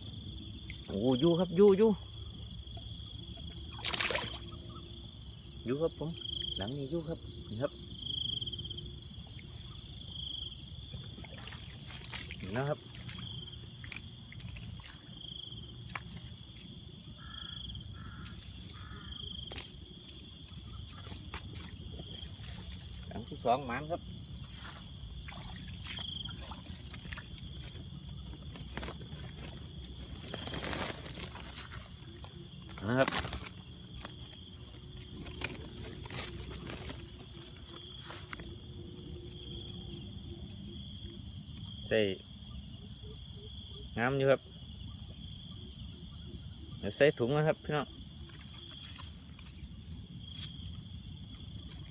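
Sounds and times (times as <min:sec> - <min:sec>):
insect trilling: 0:00.0 - 0:51.9.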